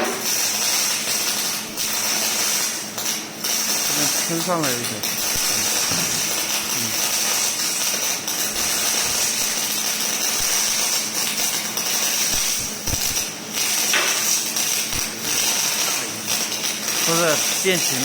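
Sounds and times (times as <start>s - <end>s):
welding arc crackling hiss: 0.0s - 18.0s.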